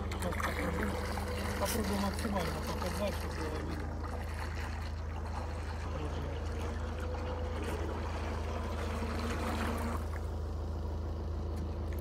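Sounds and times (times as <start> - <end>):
boat propellers churning water: 0.0 - 12.0
steady low hum: 0.0 - 12.0.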